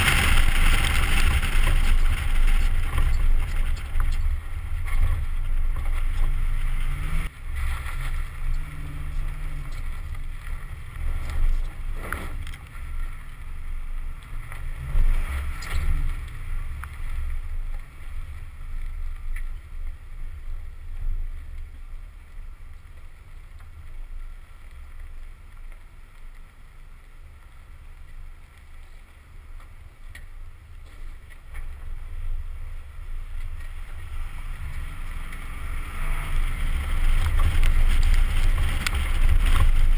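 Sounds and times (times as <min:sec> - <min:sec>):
engine rumbling and revving: 0:00.0 - 0:39.9.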